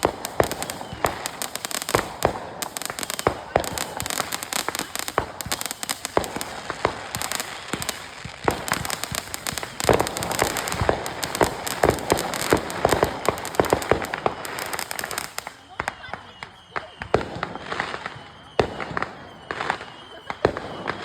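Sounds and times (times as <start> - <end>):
firecrackers popping and crackling: 0.0 - 21.0.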